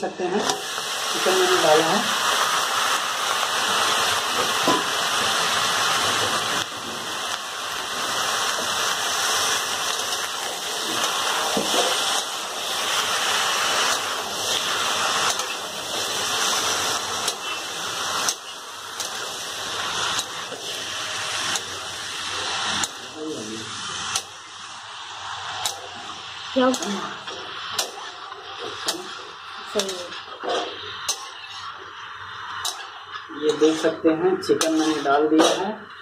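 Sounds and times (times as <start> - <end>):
chicken sizzling in oil: 0.0 - 36.0.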